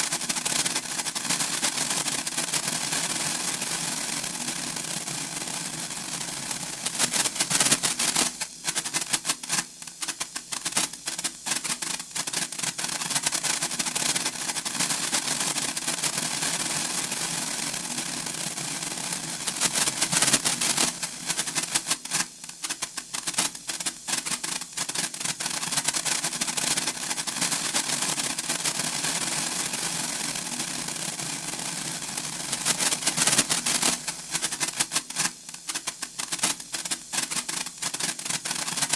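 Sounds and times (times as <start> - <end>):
sparkler crackling: 0.0 - 38.9.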